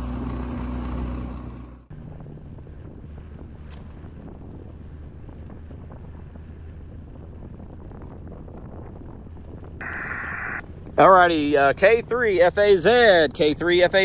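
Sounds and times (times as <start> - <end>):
wind buffeting microphone: 2.0 - 14.0.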